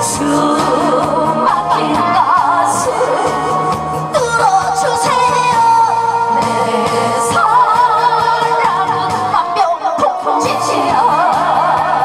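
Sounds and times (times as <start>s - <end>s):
backing music: 0.0s - 12.0s
woman singing with vibrato: 0.0s - 12.0s.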